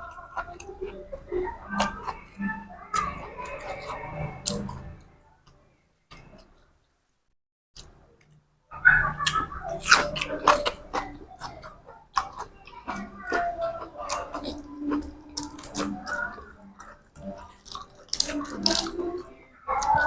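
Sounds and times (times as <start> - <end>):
person chewing crunchy food: 0.0 - 6.6, 7.8 - 20.0.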